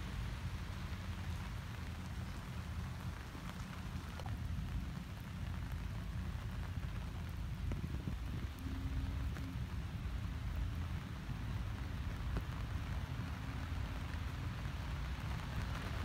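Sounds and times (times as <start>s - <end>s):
constant low rumble: 0.0s - 16.0s
steady rain falling: 0.0s - 16.0s.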